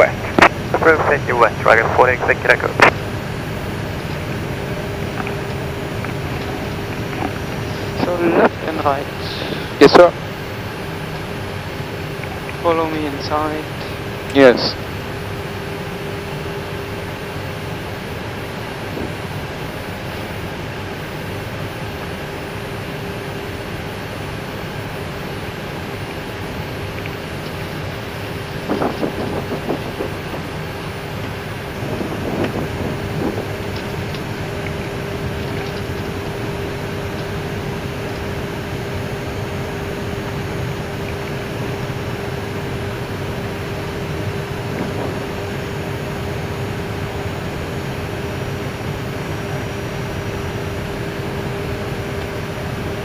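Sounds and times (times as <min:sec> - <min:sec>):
aircraft cockpit rush and hum: 0:00.0 - 0:53.0.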